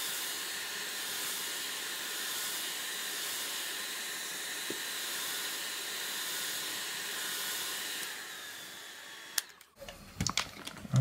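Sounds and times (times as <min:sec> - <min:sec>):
hair dryer blowing: 0:00.0 - 0:09.8.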